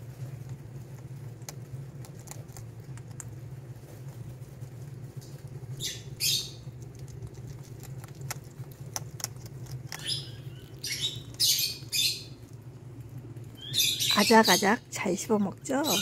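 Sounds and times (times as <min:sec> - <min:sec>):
hedgehogs crunching kibble: 0:00.0 - 0:16.0
steady low hum: 0:00.0 - 0:16.0.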